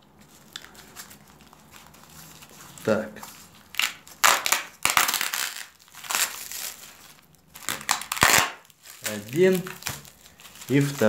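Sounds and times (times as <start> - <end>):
cardboard packing rustling: 0.1 - 11.0
cling film crinkling: 0.1 - 11.0.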